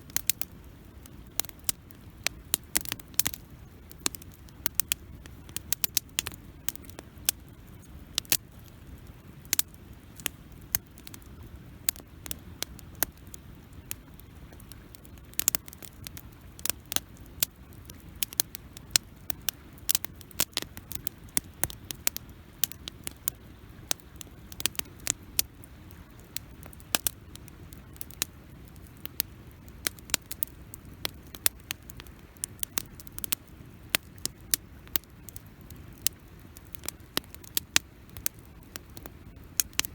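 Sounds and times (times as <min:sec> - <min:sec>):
campfire crackling and popping: 0:00.0 - 0:39.9
low steady fire rumble: 0:00.0 - 0:39.9.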